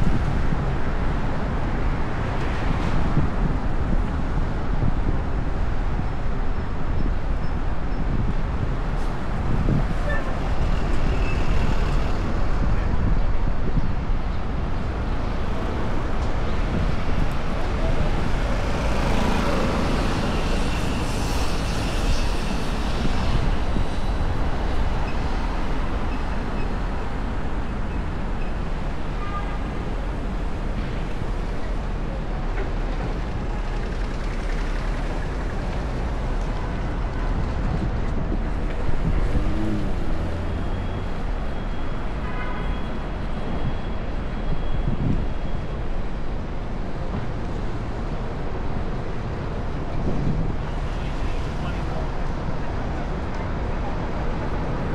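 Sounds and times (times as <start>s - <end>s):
wind noise on microphone: 0.0s - 41.7s, 42.4s - 54.9s
road traffic rumble: 0.0s - 54.9s.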